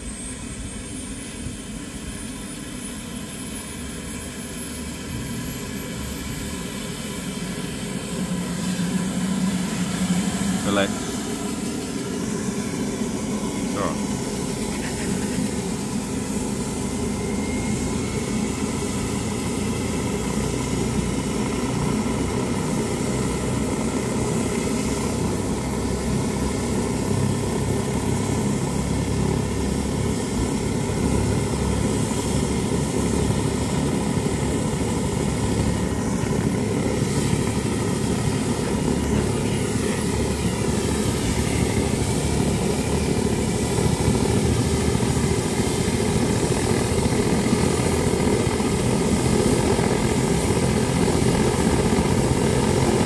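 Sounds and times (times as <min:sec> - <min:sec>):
helicopter turbine engines running: 0:00.0 - 0:53.0
high turbine whine: 0:00.0 - 0:53.0.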